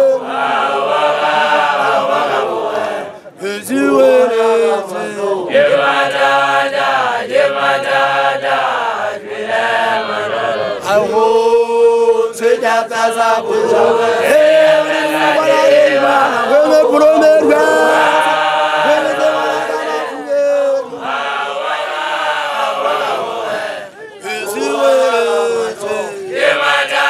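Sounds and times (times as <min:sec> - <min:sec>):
group of voices chanting: 0:00.0 - 0:27.0.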